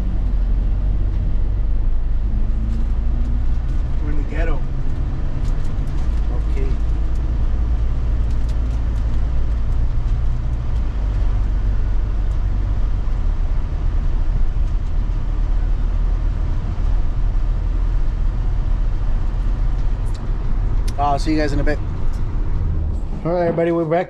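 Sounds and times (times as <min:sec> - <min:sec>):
road and engine noise: 0:00.0 - 0:24.0.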